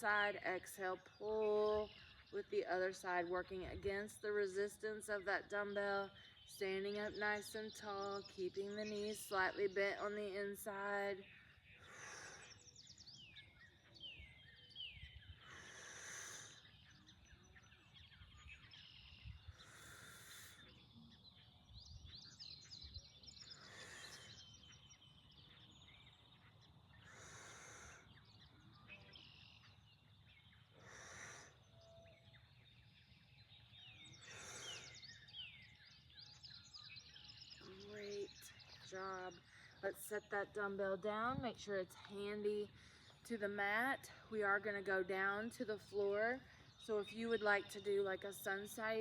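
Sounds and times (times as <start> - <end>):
faint birdsong: 0.0 - 49.0.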